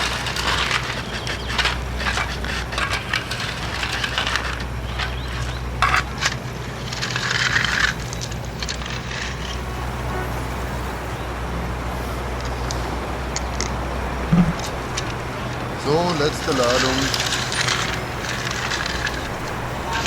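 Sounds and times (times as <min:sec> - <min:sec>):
small stones scraping and clattering: 0:00.0 - 0:09.6, 0:13.4 - 0:20.0.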